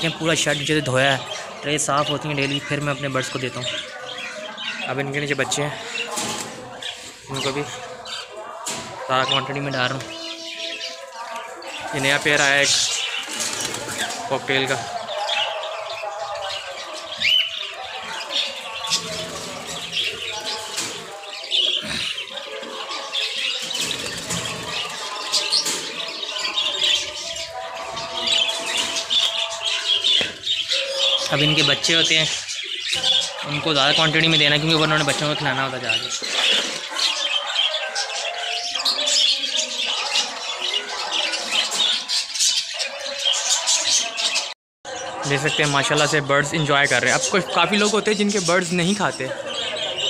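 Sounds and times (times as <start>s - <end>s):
caged birds chirping and squawking: 0.0s - 50.0s.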